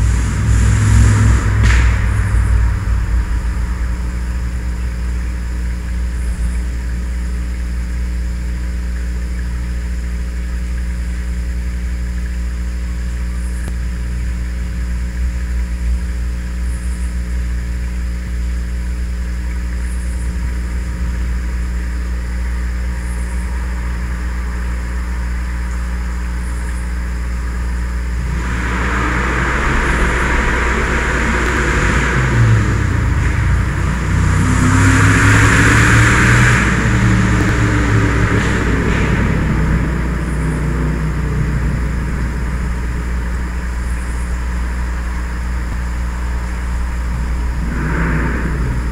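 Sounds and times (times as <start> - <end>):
truck engine revving: 0.0 - 12.2, 18.6 - 48.9
steady low drone: 0.0 - 48.9.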